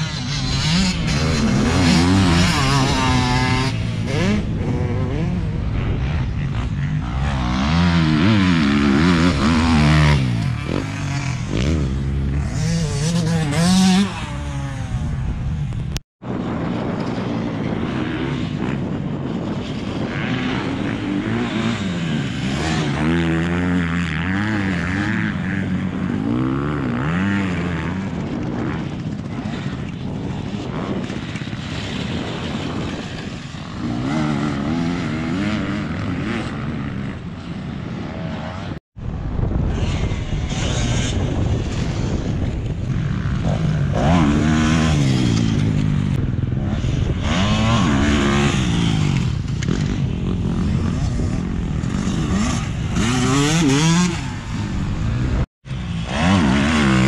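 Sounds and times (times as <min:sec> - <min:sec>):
dirt bikes revving: 0:00.0 - 0:38.8, 0:39.4 - 0:57.0.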